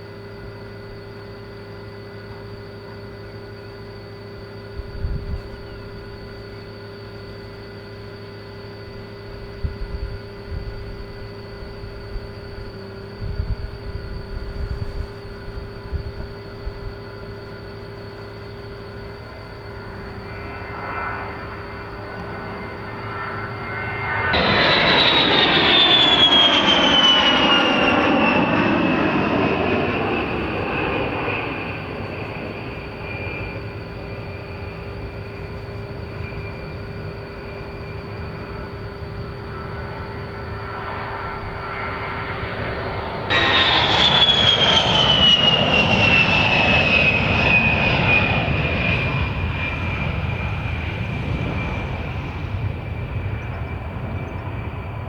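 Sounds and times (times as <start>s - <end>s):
jet aircraft passing: 8.2s - 55.0s.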